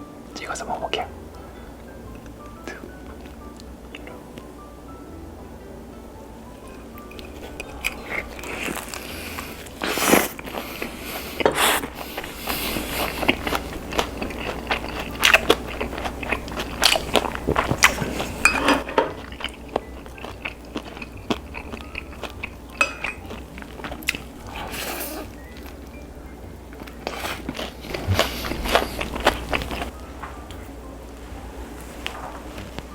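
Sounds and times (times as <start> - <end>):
crunching and chewing fried chicken: 6.5 - 32.9.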